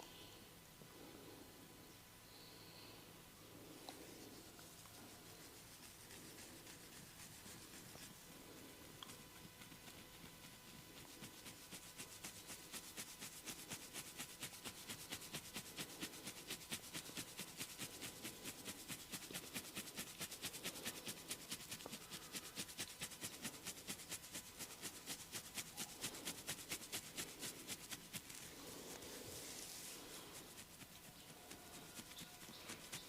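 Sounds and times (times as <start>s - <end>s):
fingernails scratching hair: 3.9s - 33.0s.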